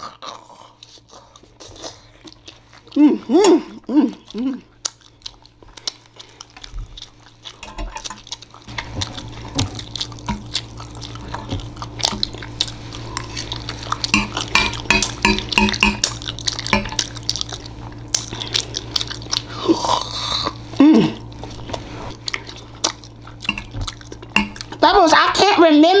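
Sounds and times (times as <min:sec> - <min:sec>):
wet chewing and lip-smacking: 0:00.0 - 0:25.5.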